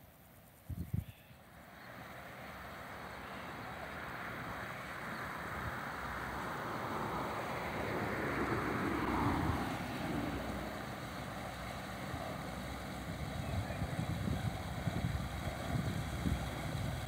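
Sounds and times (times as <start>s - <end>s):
wind buffeting microphone: 0.6s - 1.1s, 3.5s - 17.0s
boat engine running slowly: 1.4s - 17.0s.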